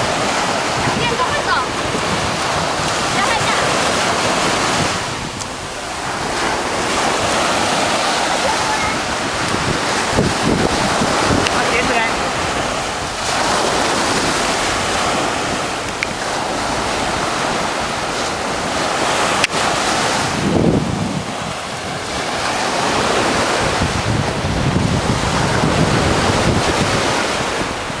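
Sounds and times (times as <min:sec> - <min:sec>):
ocean surf breaking: 0:00.0 - 0:28.0
wind buffeting microphone: 0:00.0 - 0:28.0.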